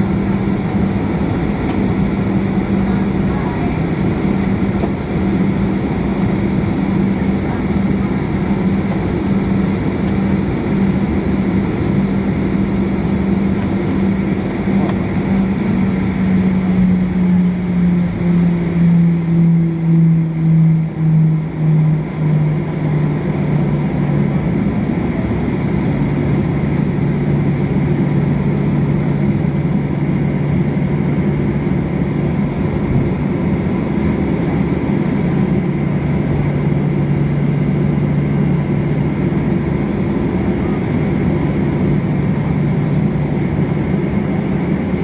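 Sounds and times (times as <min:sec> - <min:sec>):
jet engine hum in cabin: 0:00.0 - 0:45.0.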